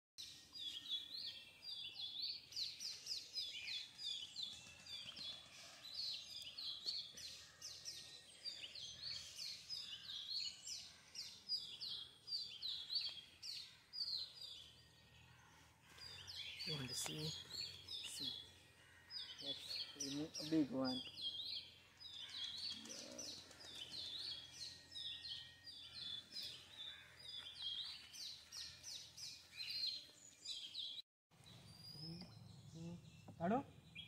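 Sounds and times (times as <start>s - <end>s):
birds chirping and singing: 0.2s - 34.0s.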